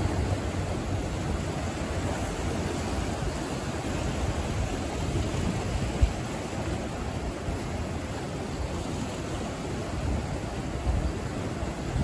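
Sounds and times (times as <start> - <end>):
sea waves washing onto shore: 0.0 - 12.0.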